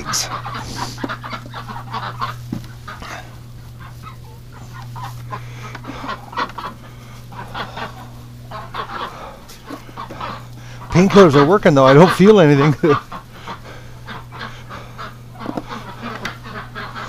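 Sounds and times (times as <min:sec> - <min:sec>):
ducks quacking: 0:00.0 - 0:17.0
steady low hum: 0:00.0 - 0:17.0.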